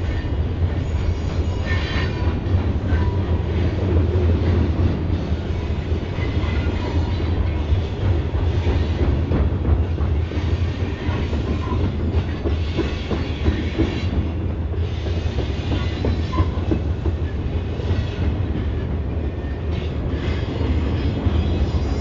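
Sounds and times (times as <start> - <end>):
train wheels clacking over rail joints: 0.0 - 22.0.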